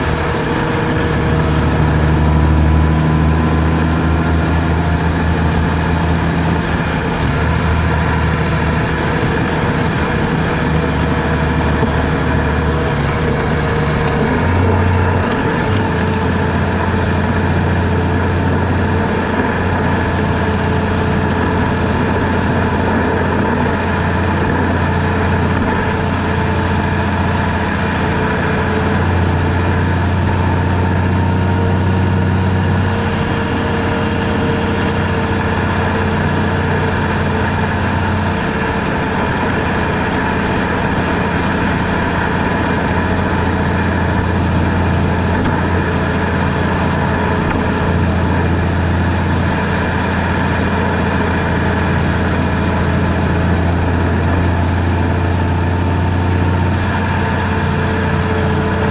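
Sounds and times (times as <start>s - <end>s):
road noise: 0.0s - 58.9s
vehicle engine running: 0.0s - 58.9s.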